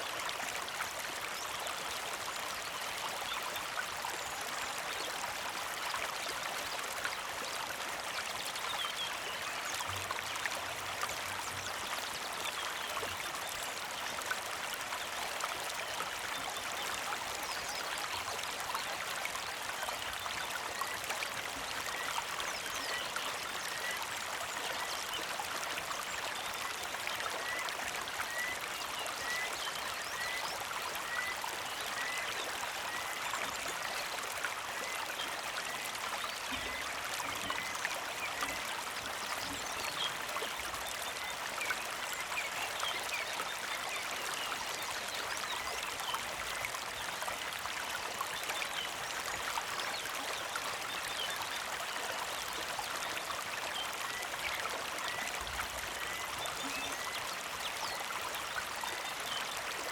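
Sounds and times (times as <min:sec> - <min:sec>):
creek trickling and babbling: 0:00.0 - 0:59.9.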